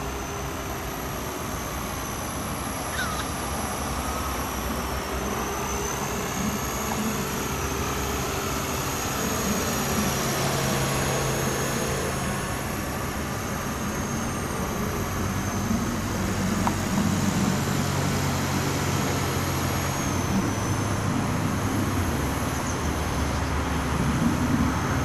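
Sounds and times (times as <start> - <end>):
electric motor whine: 0.0 - 25.0
rotor blades whirring: 0.0 - 25.0.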